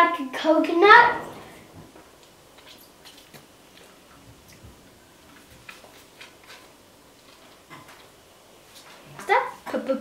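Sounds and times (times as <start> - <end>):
children chewing apple: 1.2 - 9.3.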